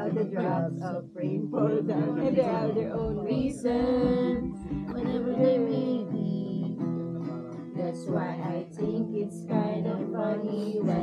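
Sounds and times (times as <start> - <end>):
acoustic guitar strumming: 0.0 - 11.0
person singing: 0.0 - 11.0.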